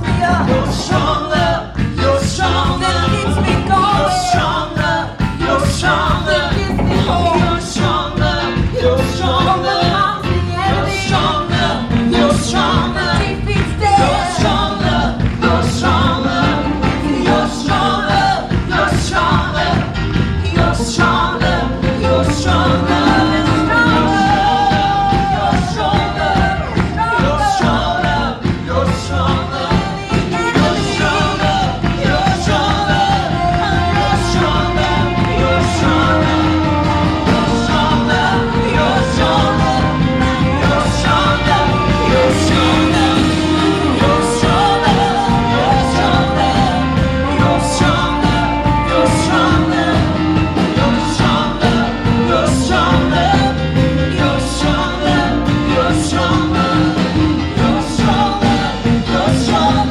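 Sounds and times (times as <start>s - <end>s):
band playing upbeat song: 0.0s - 59.9s
drums: 0.0s - 59.9s
person singing: 0.0s - 59.9s.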